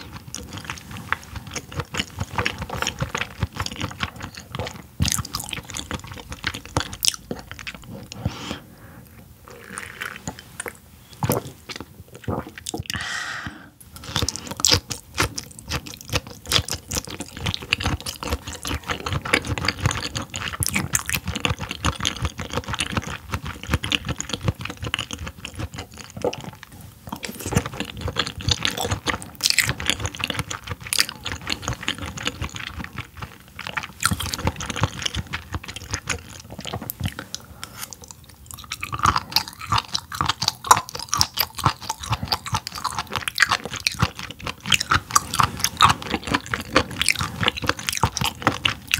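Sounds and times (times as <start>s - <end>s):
person chewing with mouth clicks: 0.0s - 48.9s.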